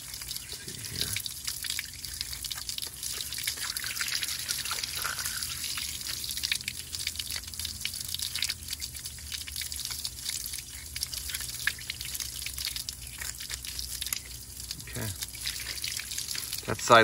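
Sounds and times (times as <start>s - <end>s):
water streaming and splashing: 0.0s - 17.0s.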